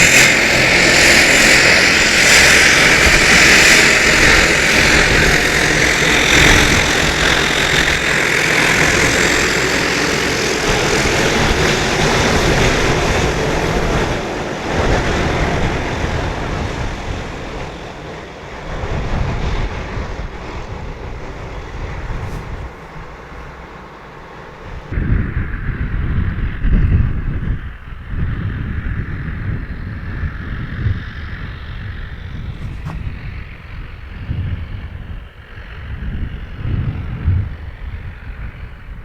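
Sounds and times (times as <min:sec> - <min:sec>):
turboprop aircraft passing: 0:00.0 - 0:39.0
wind rumble on microphone: 0:00.0 - 0:39.0.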